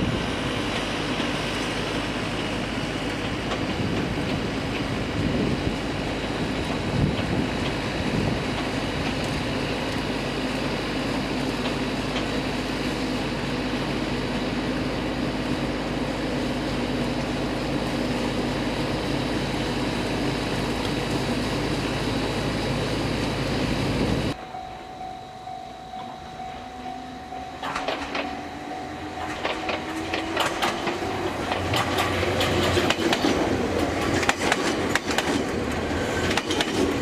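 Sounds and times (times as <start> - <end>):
electric train rumbling on track: 0.0 - 37.0.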